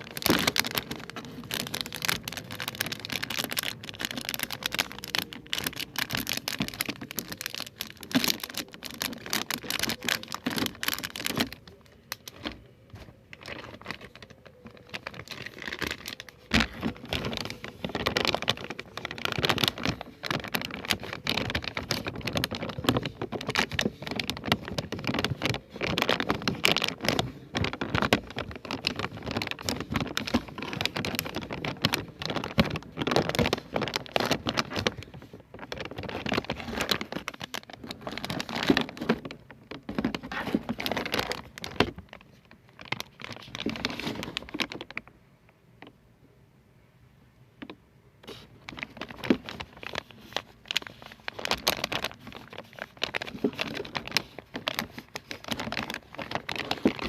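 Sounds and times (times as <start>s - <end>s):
objects crackling and clicking: 0.0s - 46.0s, 47.6s - 57.0s.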